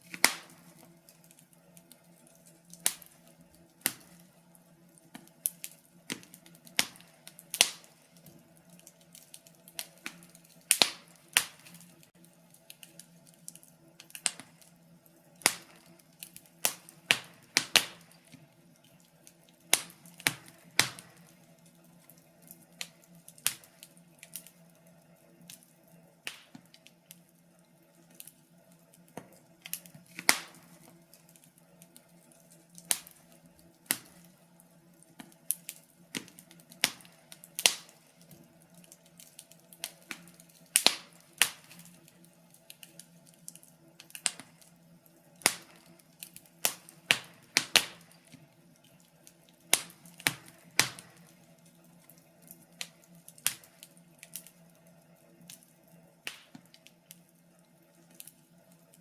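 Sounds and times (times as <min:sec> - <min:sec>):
faint steady hum: 0:00.0 - 0:59.0
wood fire crackling: 0:00.0 - 0:59.0.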